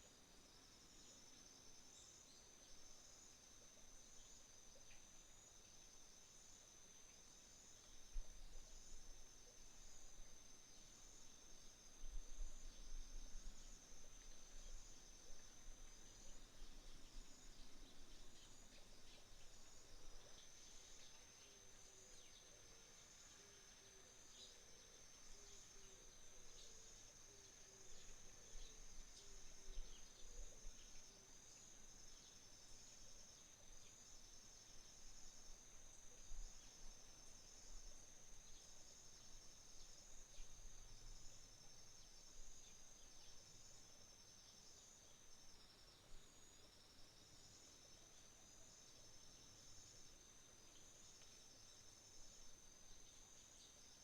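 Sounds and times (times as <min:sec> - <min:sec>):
crickets trilling: 0:00.0 - 0:54.0
insect chirps pulsing: 0:00.0 - 0:54.0.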